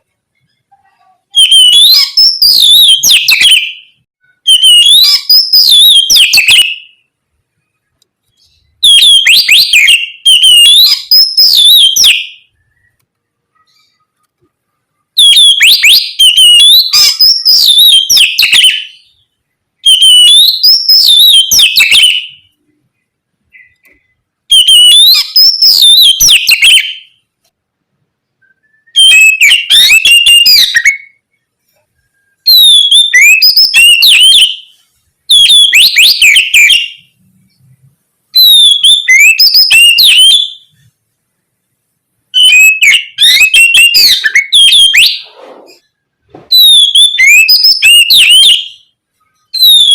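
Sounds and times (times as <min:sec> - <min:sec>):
songbird singing whistles and trills: 0:00.4 - 0:07.1, 0:08.2 - 0:14.3, 0:15.2 - 0:27.3, 0:28.4 - 0:37.8, 0:38.4 - 0:40.9, 0:42.4 - 0:49.9.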